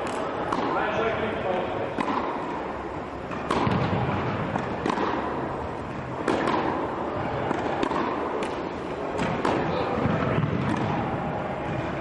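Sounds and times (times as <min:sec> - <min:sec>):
tennis balls bouncing: 0:00.0 - 0:01.0, 0:01.8 - 0:12.0
tennis balls struck by rackets: 0:00.0 - 0:01.0, 0:01.8 - 0:12.0.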